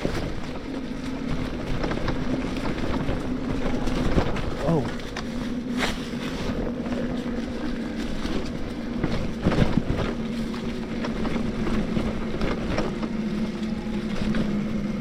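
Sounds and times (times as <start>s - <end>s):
bike knocks and rattles: 0.0s - 15.0s
electric bike motor humming: 0.0s - 15.0s.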